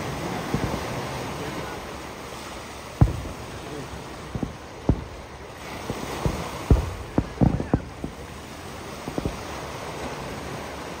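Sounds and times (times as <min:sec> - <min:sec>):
distant fireworks booming: 0:00.0 - 0:10.6
steady hiss: 0:00.0 - 0:11.0.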